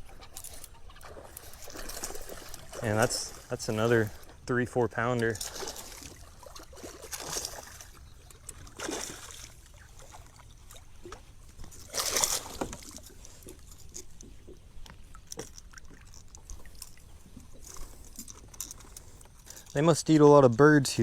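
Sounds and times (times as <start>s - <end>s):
water splashing against kayak: 0.0s - 19.8s.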